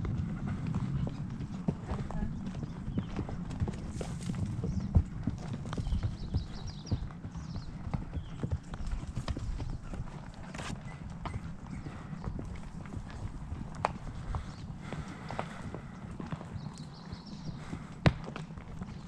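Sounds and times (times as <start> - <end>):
horse hooves clip-clopping: 0.0 - 19.0.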